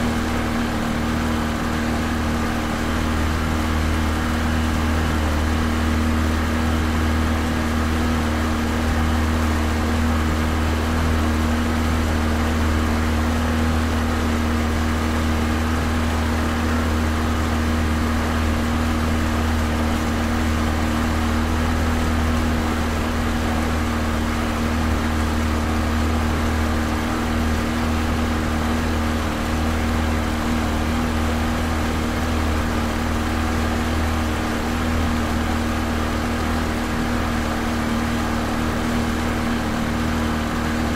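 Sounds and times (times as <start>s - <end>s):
boat motor running: 0.0s - 40.9s.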